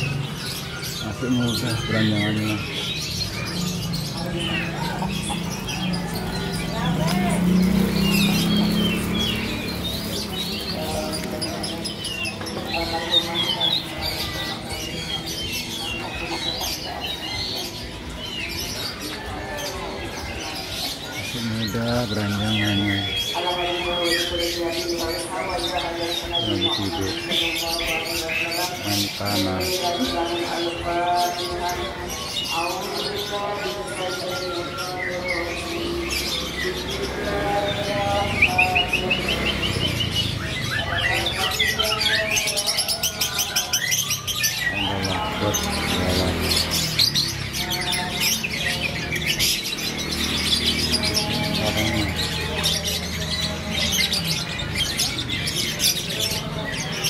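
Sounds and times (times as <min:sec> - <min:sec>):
market hubbub: 0:00.0 - 0:57.0
songbirds chirping: 0:00.0 - 0:57.0.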